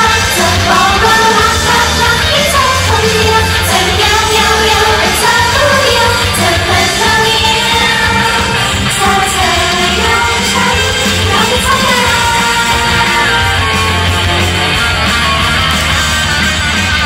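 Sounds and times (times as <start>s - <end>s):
women singing pop song live: 0.0s - 13.7s
loud backing music with bass: 0.0s - 17.0s.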